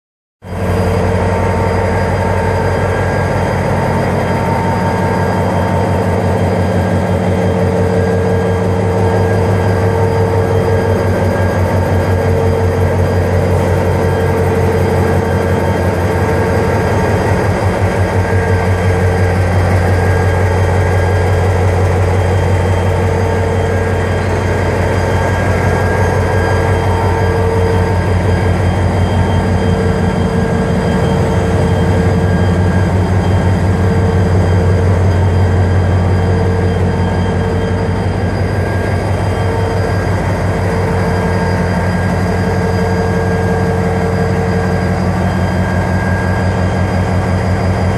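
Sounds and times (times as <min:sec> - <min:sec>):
diesel locomotive idling: 0:00.4 - 0:47.9
humming tone: 0:00.5 - 0:47.9.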